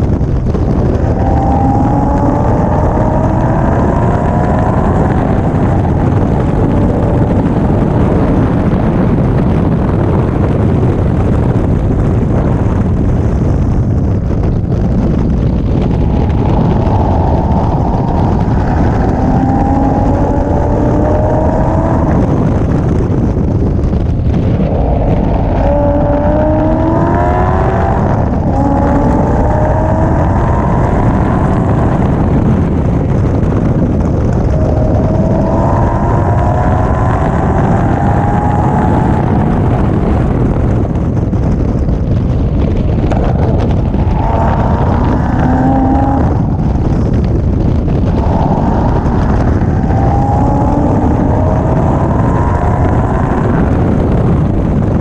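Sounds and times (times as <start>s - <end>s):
car engine revving: 0.0s - 55.0s
wind rumble on microphone: 0.0s - 55.0s.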